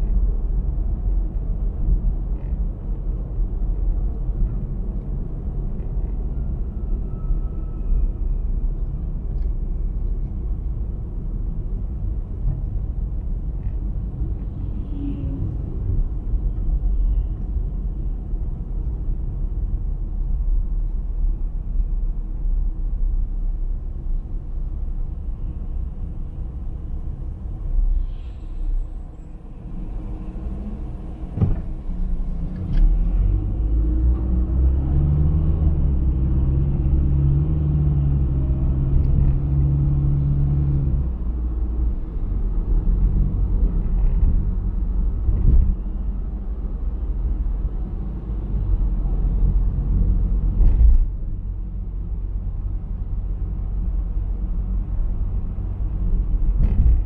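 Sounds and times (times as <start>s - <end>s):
low engine hum: 0.0s - 57.0s
road and engine rumble: 0.0s - 57.0s.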